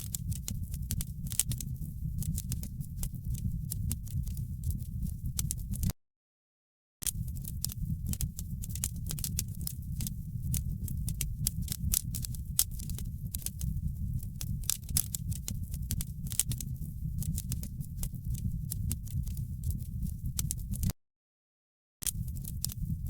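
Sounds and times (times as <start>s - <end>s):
wood fire crackling: 0.0s - 5.9s, 7.1s - 20.9s.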